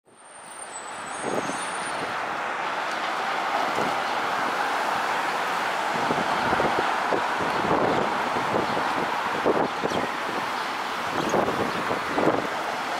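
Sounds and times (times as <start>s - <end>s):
traffic engine and tyre noise: 0.1s - 12.9s.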